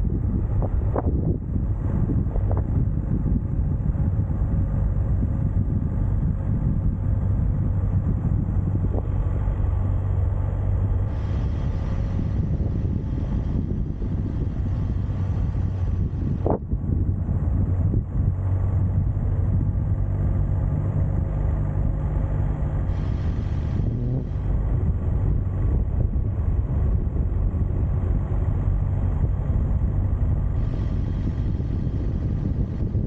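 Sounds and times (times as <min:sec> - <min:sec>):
engine rumbling: 0:00.0 - 0:33.0
wind noise: 0:00.0 - 0:33.0.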